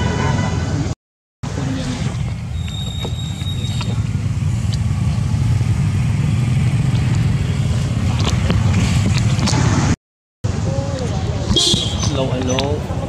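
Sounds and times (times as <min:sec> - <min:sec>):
low outdoor rumble: 0:01.5 - 0:13.0.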